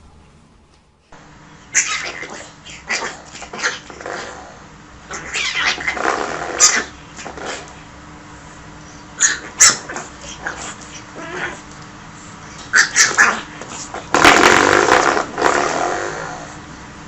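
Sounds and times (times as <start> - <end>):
dog vocalizing: 1.7 - 7.8, 8.9 - 16.6.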